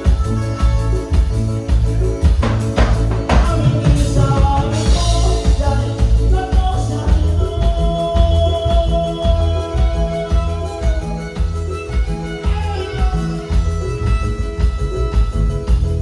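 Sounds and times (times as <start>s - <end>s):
driving bass beat: 0.0s - 16.0s
keyboard melody: 0.0s - 16.0s
live band music: 0.0s - 16.0s.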